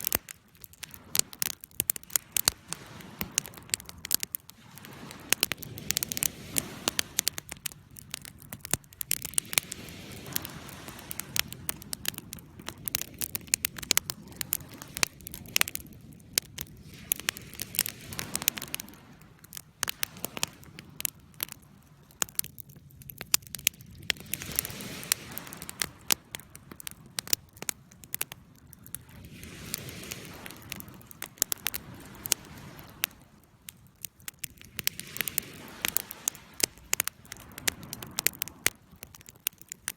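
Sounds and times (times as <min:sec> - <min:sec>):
rushing of flames: 0:00.0 - 0:39.9
wood crackling and popping: 0:00.0 - 0:39.9.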